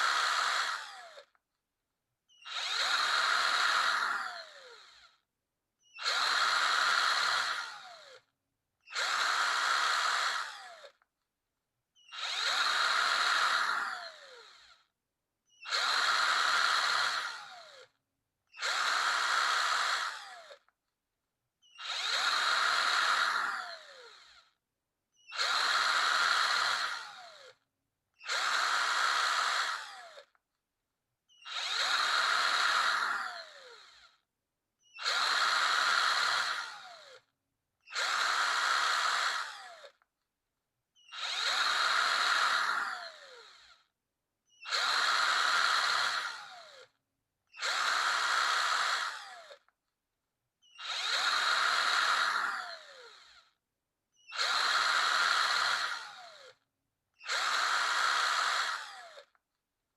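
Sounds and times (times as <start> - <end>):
power drill whirring: 0.0 - 1.4, 2.3 - 8.3, 8.9 - 11.1, 12.0 - 14.9, 15.5 - 20.8, 21.6 - 30.4, 31.3 - 40.1, 41.0 - 43.9, 44.5 - 49.8, 50.6 - 59.4.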